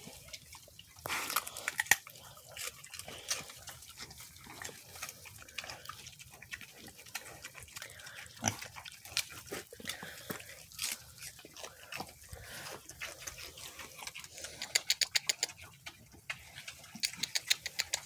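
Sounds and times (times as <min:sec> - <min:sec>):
pigs chewing crunchy celery: 0:00.0 - 0:18.0.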